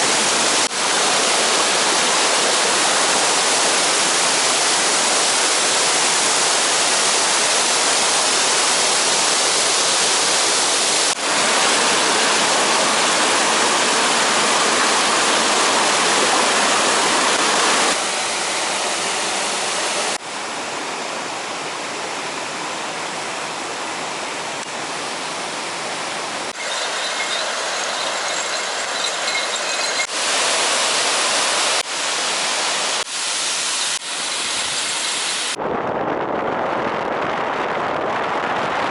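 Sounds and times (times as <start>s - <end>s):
waterfall rushing: 0.0s - 35.6s.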